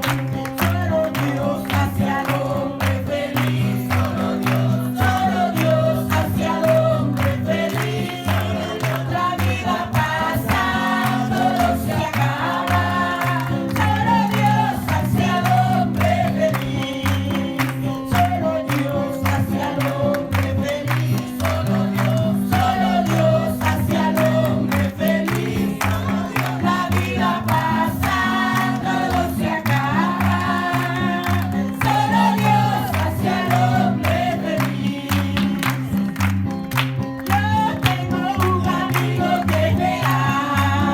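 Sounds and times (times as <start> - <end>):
group singing: 0.0 - 36.2, 37.2 - 40.9.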